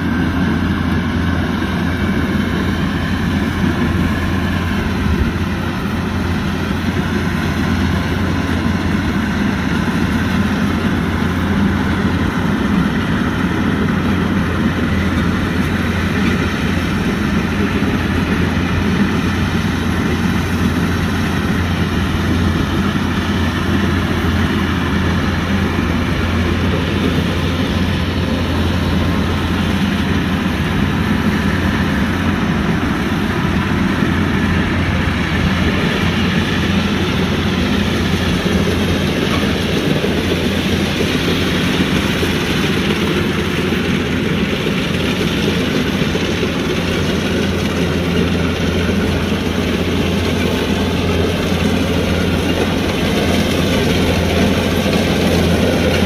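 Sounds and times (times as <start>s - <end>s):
diesel engine drone: 0.0s - 56.0s
machinery noise: 0.0s - 56.0s.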